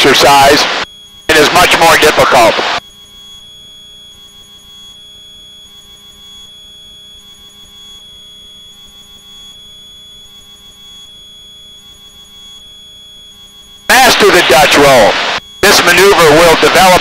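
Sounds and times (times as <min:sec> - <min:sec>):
steady high-pitched tone: 0:00.0 - 0:17.0.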